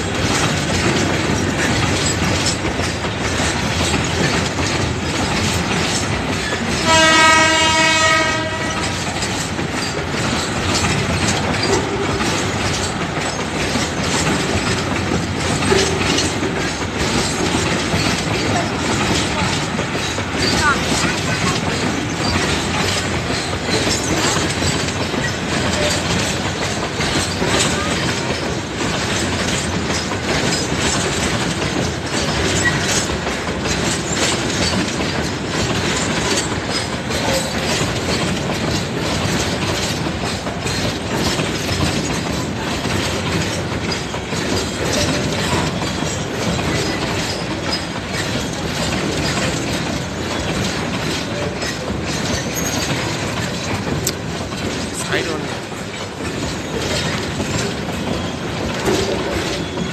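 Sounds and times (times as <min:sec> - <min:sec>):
freight train rumbling: 0:00.0 - 0:59.9
wheels clicking over rail joints: 0:00.0 - 0:59.9.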